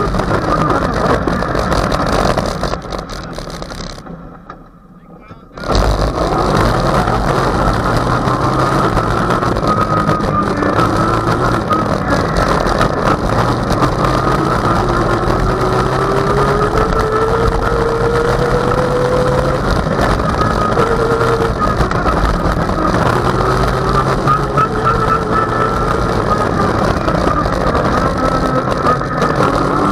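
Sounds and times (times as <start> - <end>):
wind noise: 0.0 - 4.0, 5.6 - 29.9
tyres rumbling on dirt: 0.0 - 29.9
vehicle engine running: 0.0 - 29.9.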